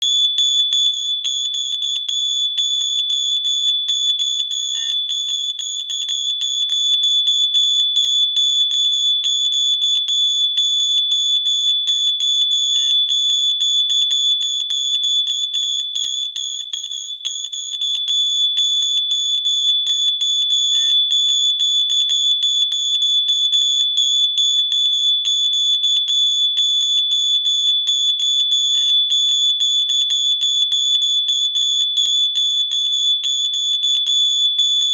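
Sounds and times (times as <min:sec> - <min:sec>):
fire alarm tone with flutter: 0:00.0 - 0:34.9.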